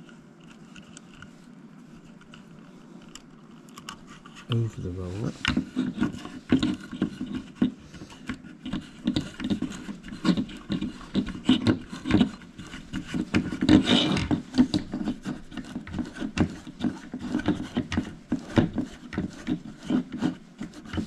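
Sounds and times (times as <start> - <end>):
belt crinkling and rubbing: 0.0 - 21.0.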